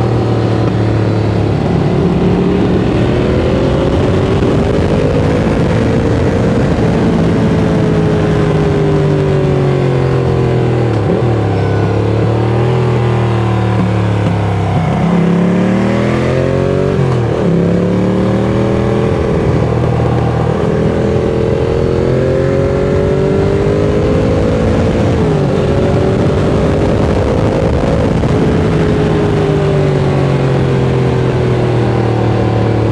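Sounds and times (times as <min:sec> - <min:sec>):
motorcycle engine revving: 0:00.0 - 0:32.9
wind rush: 0:00.0 - 0:32.9.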